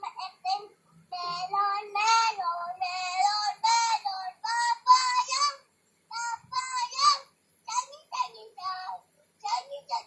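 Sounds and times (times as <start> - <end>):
child singing: 0.0 - 10.0.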